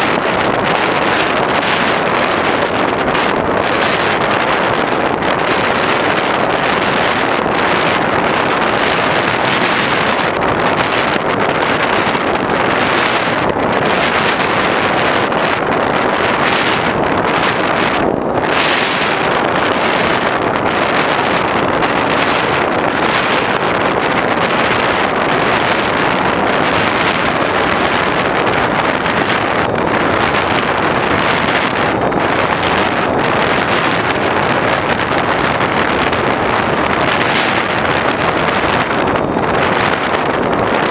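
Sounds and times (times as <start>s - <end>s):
airflow rushing over camera: 0.0s - 40.9s
motor and propeller drone: 0.0s - 40.9s.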